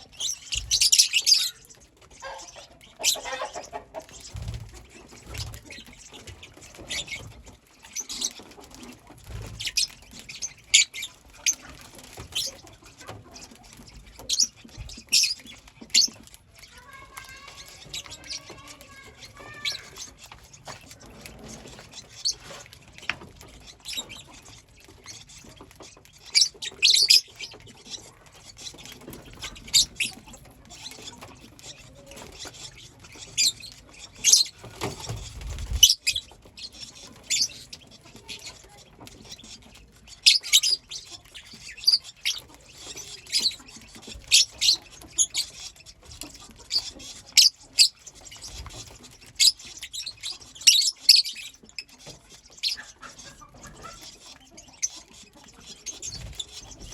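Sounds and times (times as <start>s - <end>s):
lovebirds chirping: 0.0s - 56.9s.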